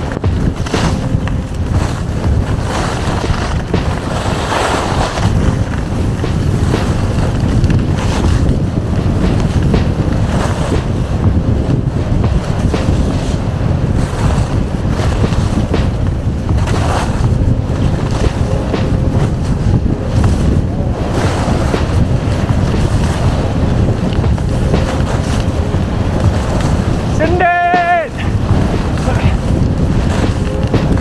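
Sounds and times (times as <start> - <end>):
wind buffeting microphone: 0.0 - 31.0
skis hissing over snow: 0.4 - 11.0, 12.4 - 15.7, 16.3 - 31.0.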